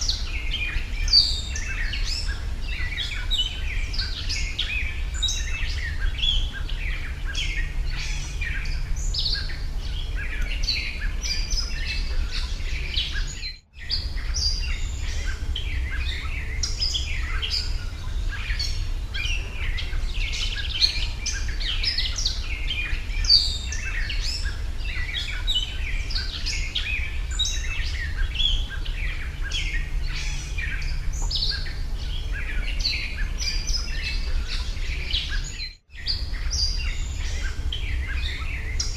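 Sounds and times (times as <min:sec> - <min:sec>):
low background rumble: 0:00.0 - 0:38.9
small birds chirping: 0:00.0 - 0:38.9.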